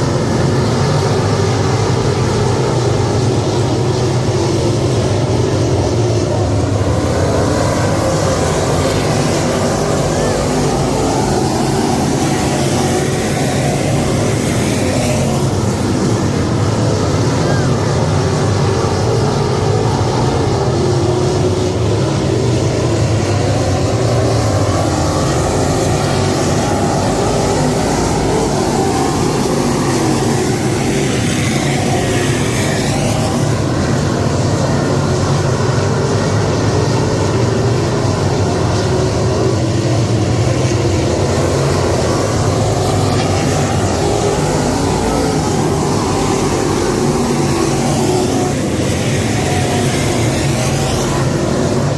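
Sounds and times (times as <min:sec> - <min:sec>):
race car engines droning: 0:00.0 - 0:51.9.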